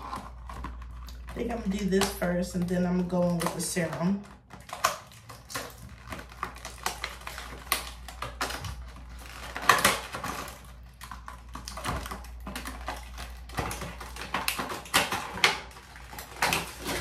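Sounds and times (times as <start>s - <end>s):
small items clicking and tapping: 0.0s - 17.0s.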